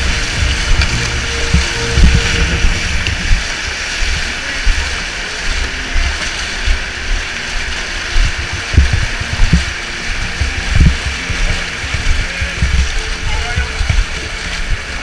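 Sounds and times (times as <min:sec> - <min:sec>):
people wading through water: 0:00.0 - 0:15.0
rushing water: 0:00.0 - 0:15.0.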